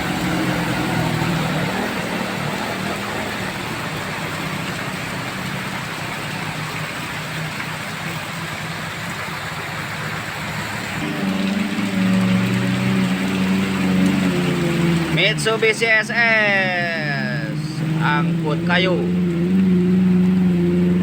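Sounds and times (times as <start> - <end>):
heavy rain on road: 0.0 - 21.0
vehicle engine passing: 0.0 - 21.0.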